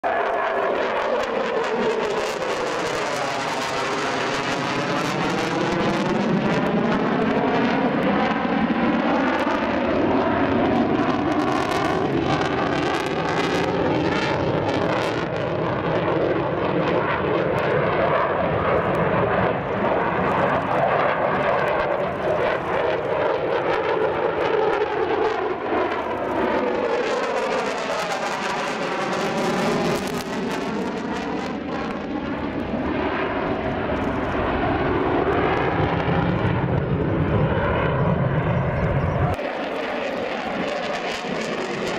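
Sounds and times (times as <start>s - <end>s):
jet engine roar: 0.0s - 41.9s.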